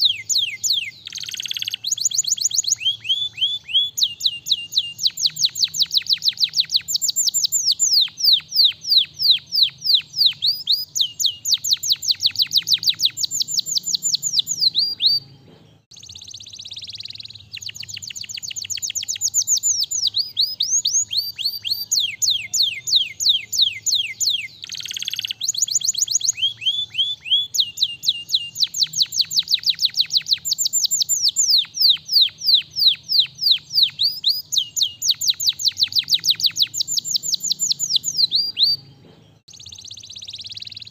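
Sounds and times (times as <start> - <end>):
canary trilling: 0.0 - 38.9.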